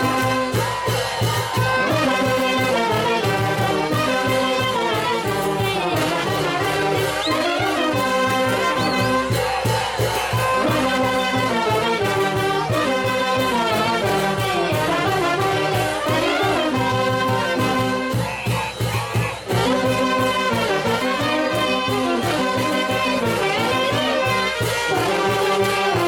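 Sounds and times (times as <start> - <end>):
brass band dance tune: 0.0 - 26.0.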